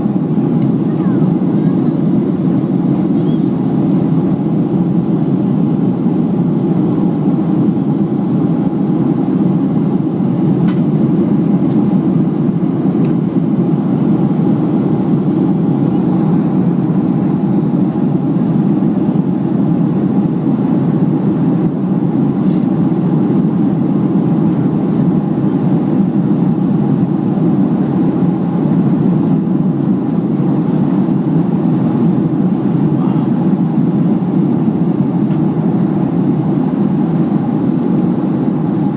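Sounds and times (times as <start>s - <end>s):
faint hum: 0.0s - 38.9s
jet engine drone in cabin: 0.0s - 38.9s.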